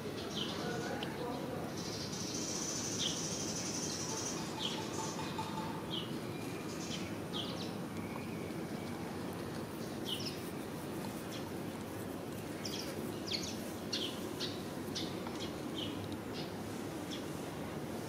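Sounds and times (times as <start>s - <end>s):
low background noise: 0.0s - 18.0s
small birds chirping: 0.1s - 17.4s.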